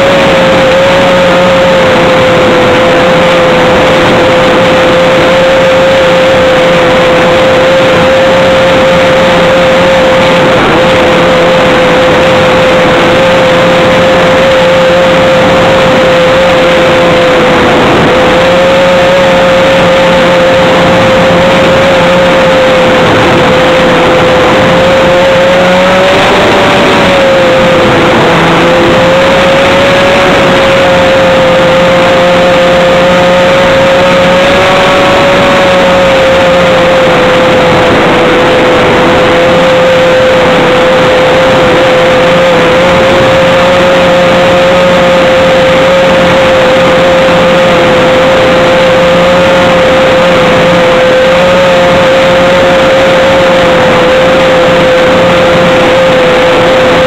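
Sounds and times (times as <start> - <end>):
model airplane motor whine: 0.0 - 57.0
wind noise: 0.0 - 57.0.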